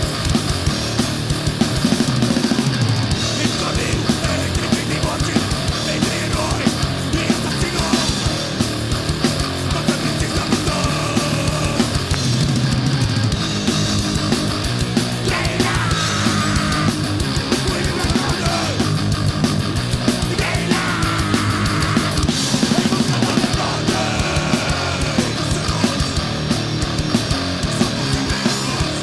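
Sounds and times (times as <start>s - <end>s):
distorted guitars and bass: 0.0s - 29.0s
rapid pounding drums: 0.0s - 29.0s.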